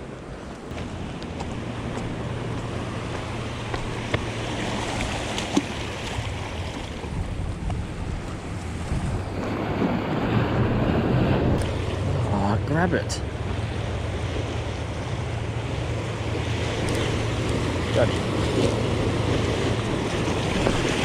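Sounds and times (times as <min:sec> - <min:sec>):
sea waves washing against rocks: 0:00.0 - 0:21.0
wind buffeting microphone: 0:00.0 - 0:21.0.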